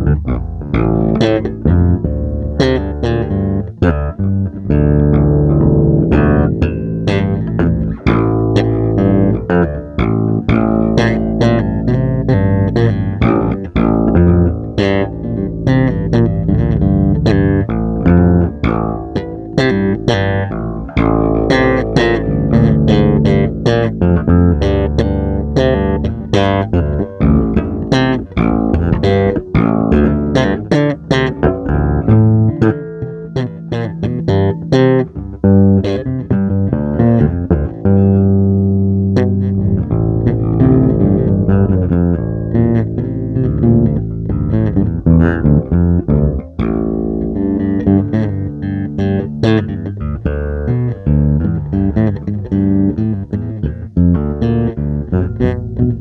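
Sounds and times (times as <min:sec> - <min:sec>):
guitar plucked notes: 0:00.0 - 0:56.0.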